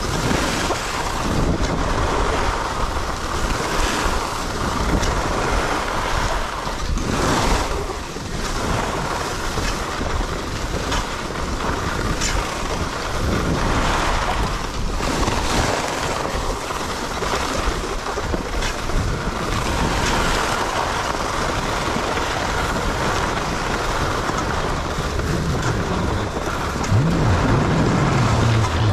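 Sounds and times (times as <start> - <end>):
skis scraping on snow: 0.0 - 28.9
wind buffeting microphone: 0.0 - 28.9.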